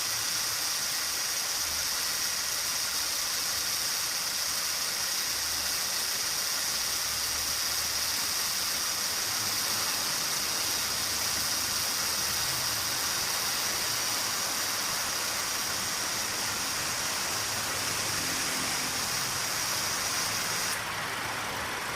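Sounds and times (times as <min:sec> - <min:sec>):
compressor high-pitched whine: 0:00.0 - 0:20.9.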